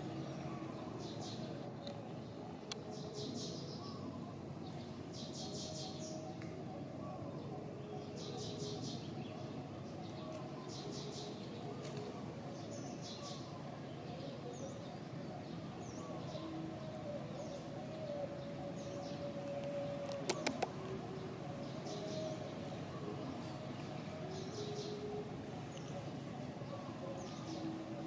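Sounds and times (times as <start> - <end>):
small birds chirping: 0.0 - 28.0
steady background hum: 0.0 - 28.0.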